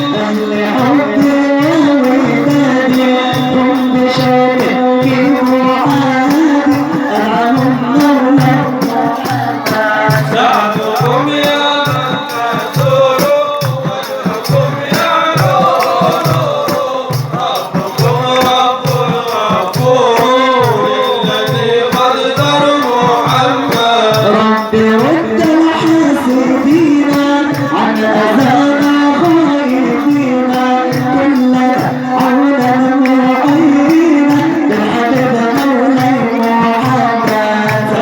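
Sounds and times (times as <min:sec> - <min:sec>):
hand drum beat: 0:00.0 - 0:38.0
man singing melismatic melody: 0:00.0 - 0:38.0
rattling percussion: 0:00.0 - 0:38.0.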